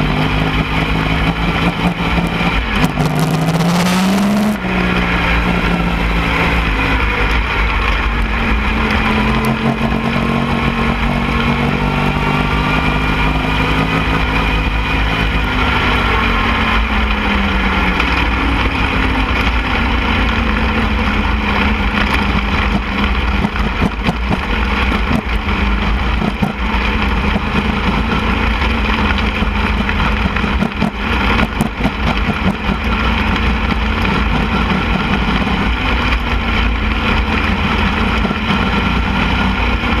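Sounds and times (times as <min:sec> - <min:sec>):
race car engine at high revs: 0:00.0 - 0:40.0
steady rush of noise: 0:00.0 - 0:40.0.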